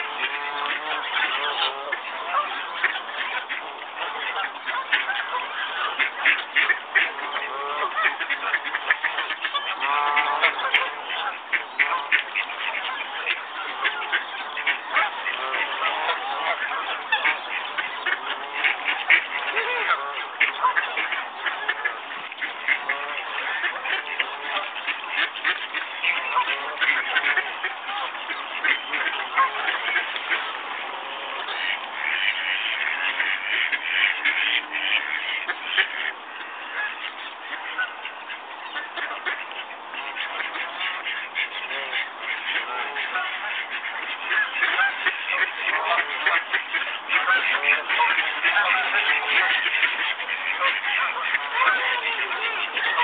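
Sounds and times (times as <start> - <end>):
ducks calling: 0.0 - 53.0
waterfowl quacking and honking: 0.0 - 53.0.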